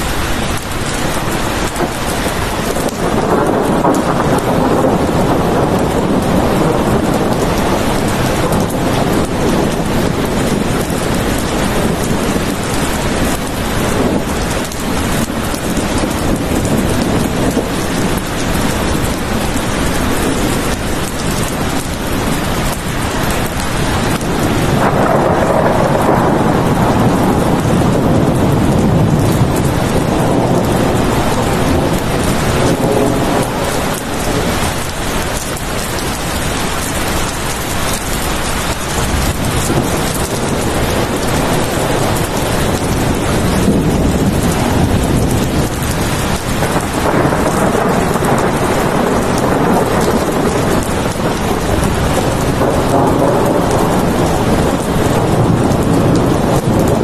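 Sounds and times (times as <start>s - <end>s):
heavy rain hissing: 0.0s - 57.0s
low rumble of thunder: 0.0s - 57.0s.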